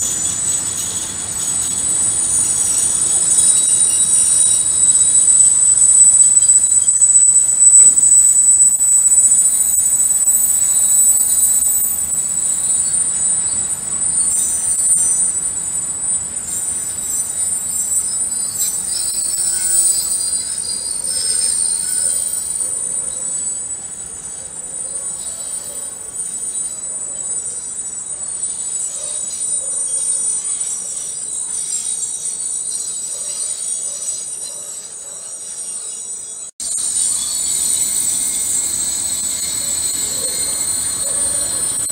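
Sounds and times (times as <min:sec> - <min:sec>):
wheels squealing: 0:00.0 - 0:41.9.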